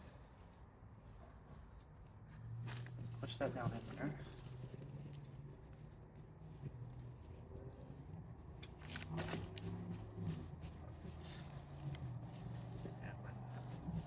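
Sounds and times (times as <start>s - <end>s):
fabric rustling and scuffing: 0.0s - 14.0s.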